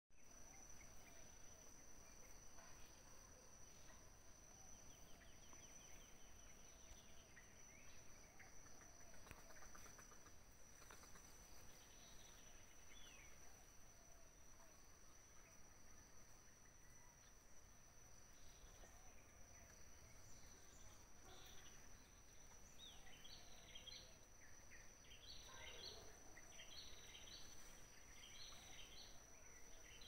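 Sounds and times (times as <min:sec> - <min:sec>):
faint bird chirps: 0:00.2 - 0:30.0.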